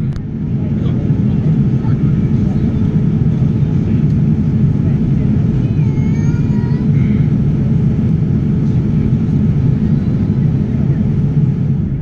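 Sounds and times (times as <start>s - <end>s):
airplane cabin roar in flight: 0.0s - 12.0s.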